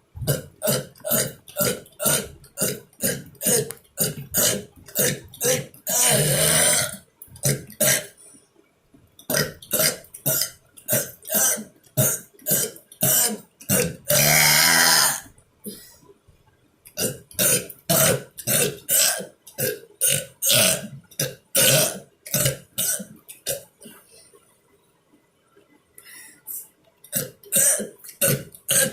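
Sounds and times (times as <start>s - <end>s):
person burping: 0.2s - 8.2s, 9.3s - 15.9s, 17.0s - 24.0s, 27.1s - 28.9s.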